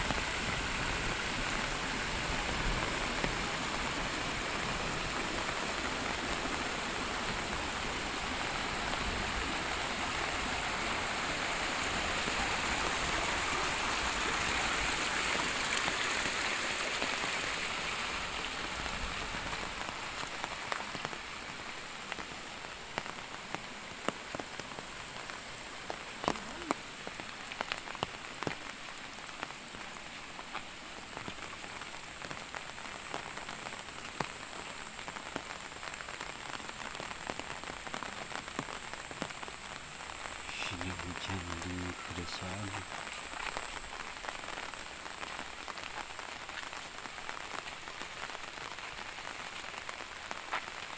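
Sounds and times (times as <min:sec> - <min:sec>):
light rain hiss: 0:00.0 - 0:50.9
raindrops ticking: 0:00.0 - 0:50.9.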